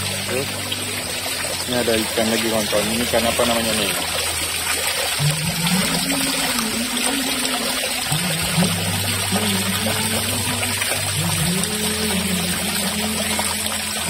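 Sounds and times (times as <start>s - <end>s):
faint background music: 0.0s - 14.0s
water splashing into fish tank: 0.0s - 14.0s.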